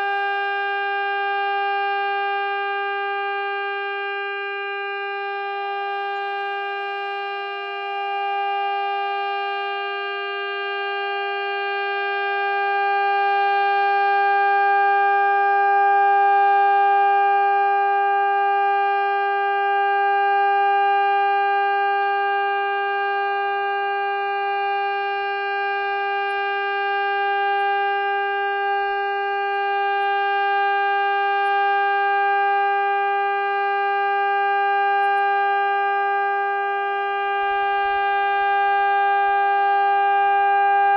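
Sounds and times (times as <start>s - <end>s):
steady-tone warning siren: 0.0s - 40.9s.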